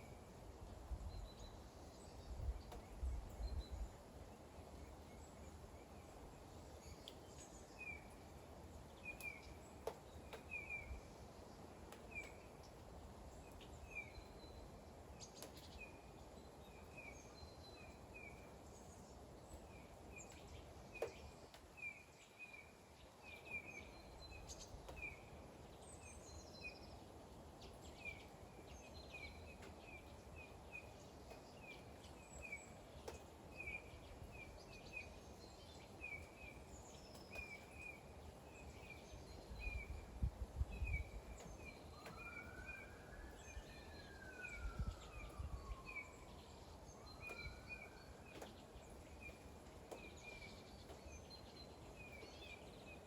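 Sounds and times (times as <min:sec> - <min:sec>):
faint rain hiss: 0:00.0 - 0:53.0.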